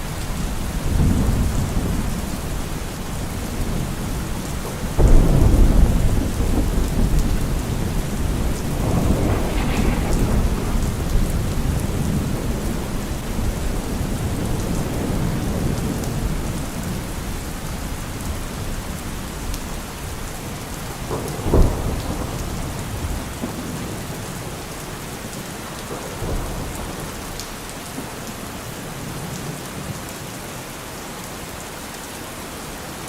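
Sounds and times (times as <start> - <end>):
steady rain: 0.0 - 33.0
thunder clap and rumble: 0.2 - 28.2.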